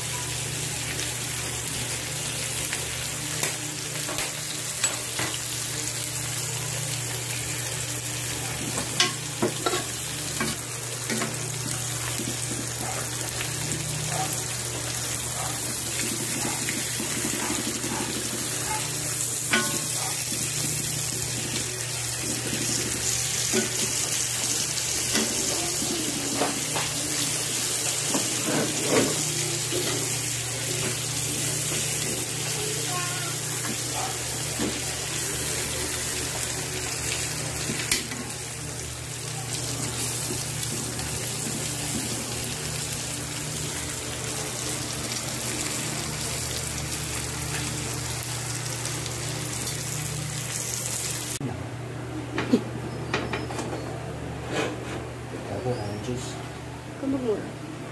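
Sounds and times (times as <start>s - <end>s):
meat sizzling in oil: 0.0s - 51.4s.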